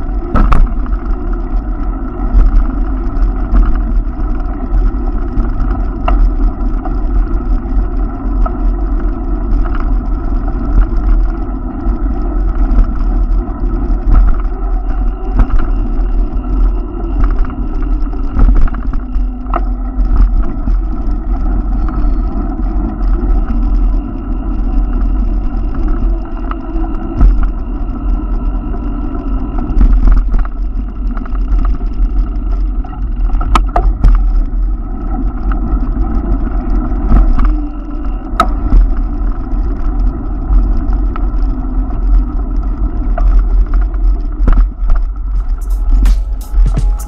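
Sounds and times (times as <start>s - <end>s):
bike going over bumps: 0.0s - 46.1s
wind and road rumble: 0.0s - 47.0s.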